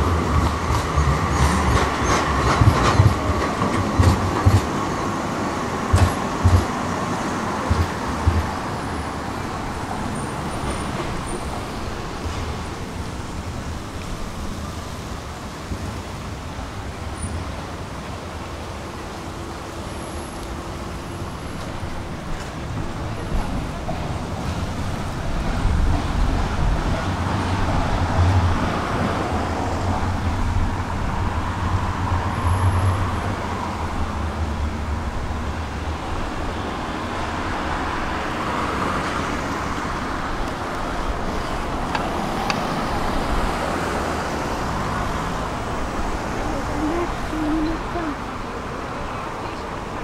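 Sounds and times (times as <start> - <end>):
heavy vehicle rumble: 0.0 - 50.0
traffic noise: 0.0 - 50.0.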